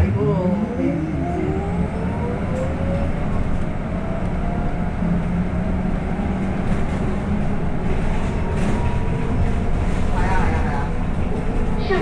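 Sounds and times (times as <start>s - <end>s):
bus low rumble: 0.0s - 12.0s.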